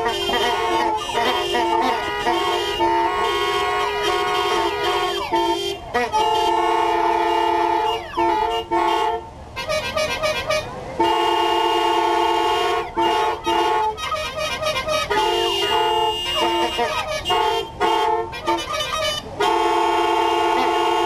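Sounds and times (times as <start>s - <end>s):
car horns sounding in chords: 0.0s - 21.0s.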